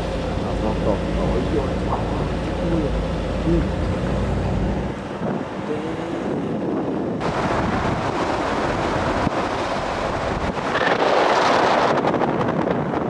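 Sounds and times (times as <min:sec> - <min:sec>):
road and engine rumble: 0:00.0 - 0:13.0
wind buffeting microphone: 0:00.0 - 0:13.0.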